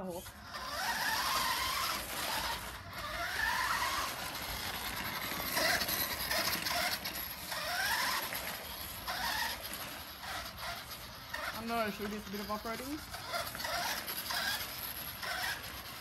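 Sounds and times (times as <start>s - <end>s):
toy car motor whining: 0.0s - 16.0s.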